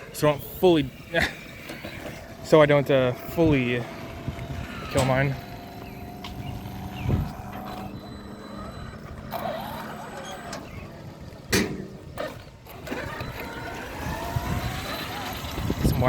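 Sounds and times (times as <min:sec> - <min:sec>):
rc truck motors whining: 0:00.0 - 0:16.0.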